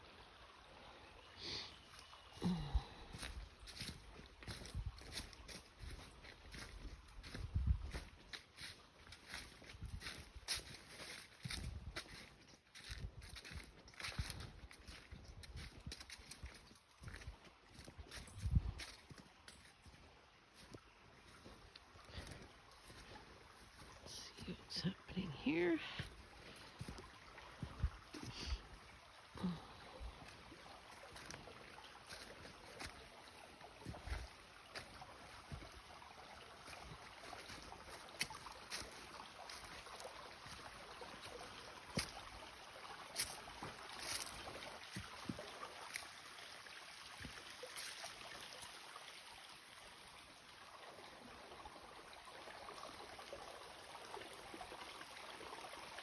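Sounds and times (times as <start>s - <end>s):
stream trickling: 0.0s - 56.0s.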